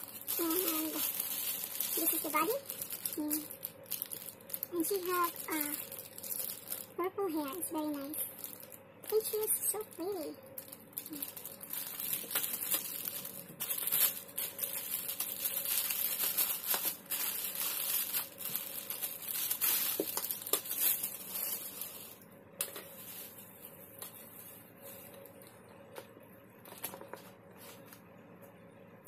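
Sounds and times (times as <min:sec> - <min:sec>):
plastic bag crinkling: 0:00.0 - 0:25.6.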